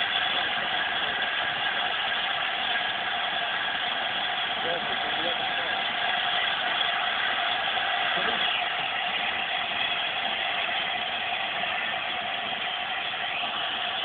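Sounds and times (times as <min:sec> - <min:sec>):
steam hissing: 0:00.0 - 0:14.0.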